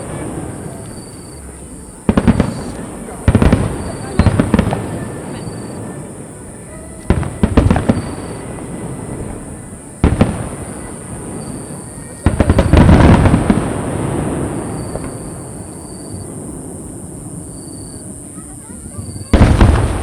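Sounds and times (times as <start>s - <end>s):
firework shells bursting: 0.0s - 6.3s, 6.9s - 18.0s.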